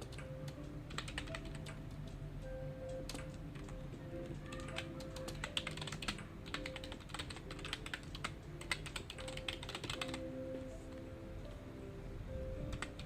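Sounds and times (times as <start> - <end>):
computer keyboard typing: 0.0 - 10.3, 12.7 - 13.0
soft background music: 0.0 - 13.0.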